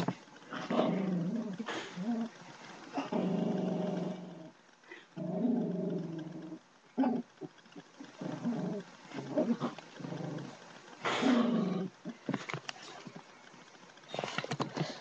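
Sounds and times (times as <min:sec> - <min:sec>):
dog growling: 0:00.0 - 0:12.4.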